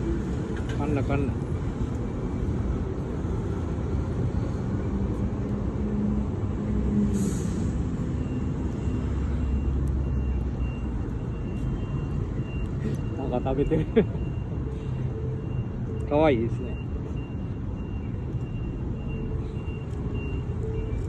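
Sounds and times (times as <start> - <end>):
heavy vehicles rumbling past: 0.0 - 21.0.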